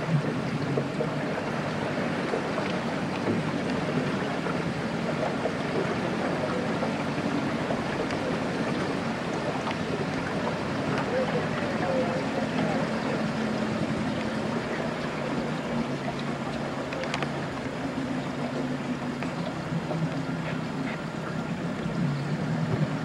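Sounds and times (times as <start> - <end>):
boat motor running: 0.0 - 23.0
water rushing: 0.0 - 23.0
wind: 0.0 - 23.0.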